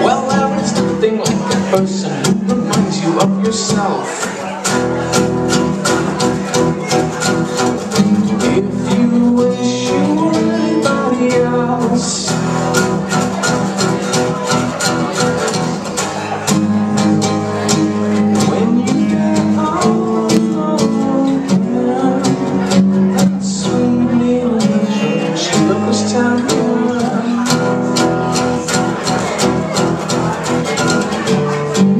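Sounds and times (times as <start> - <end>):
guitar melody notes: 0.0 - 31.9
guitars strumming chords: 0.0 - 31.9.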